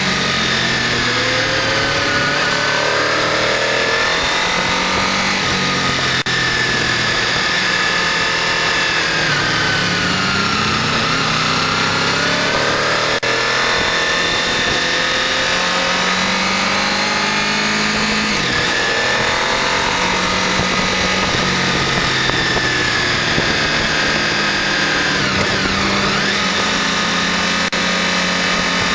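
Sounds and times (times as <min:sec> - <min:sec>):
wind noise: 0:00.0 - 0:27.8
motorcycle engine revving: 0:00.0 - 0:28.9.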